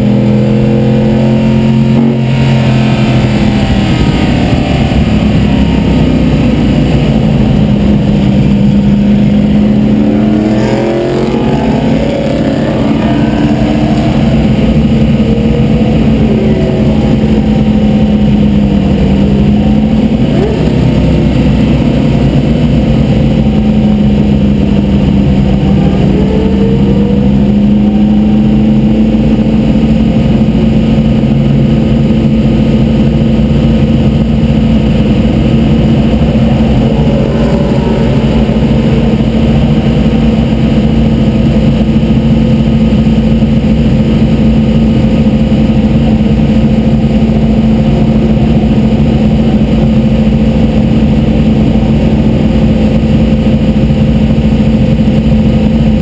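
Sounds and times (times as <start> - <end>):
race car engine at steady revs: 0.0 - 56.0
road and wind noise: 0.0 - 56.0.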